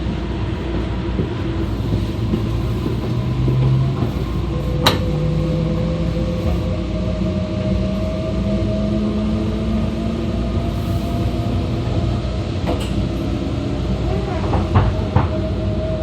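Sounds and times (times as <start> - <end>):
train running gear rumble: 0.0 - 16.0
train motor whine rising: 1.0 - 16.0.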